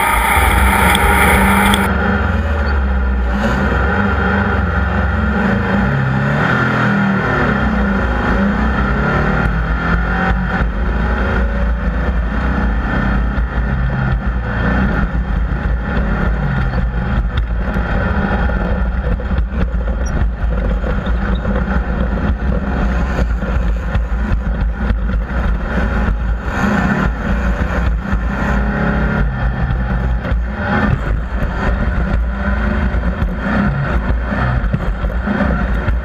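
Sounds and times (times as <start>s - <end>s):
race vehicle engines revving: 0.0s - 36.0s.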